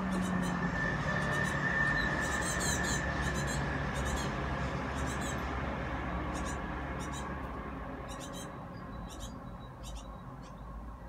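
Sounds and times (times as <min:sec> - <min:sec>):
young birds calling: 0:00.0 - 0:05.6, 0:06.2 - 0:10.8
steady background hum: 0:00.0 - 0:11.0.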